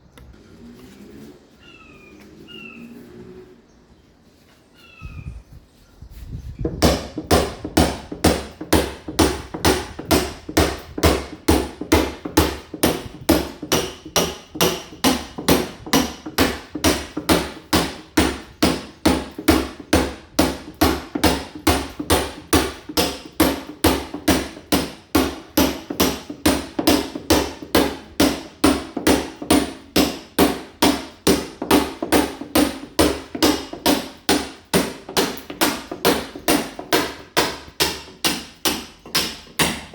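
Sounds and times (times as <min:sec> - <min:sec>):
hammer chipping masonry wall: 0:06.6 - 0:39.9.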